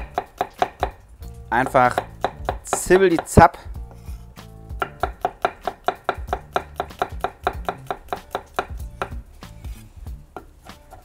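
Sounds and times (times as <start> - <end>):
knife chopping on wooden board: 0.0 - 11.0.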